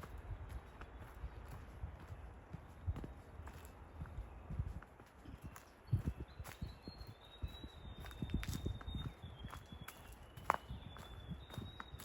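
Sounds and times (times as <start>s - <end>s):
footsteps on forest trail: 0.0s - 12.0s.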